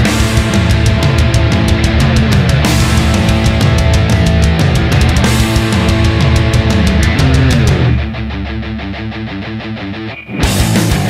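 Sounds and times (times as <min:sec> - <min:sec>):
heavy metal music: 0:00.0 - 0:11.0.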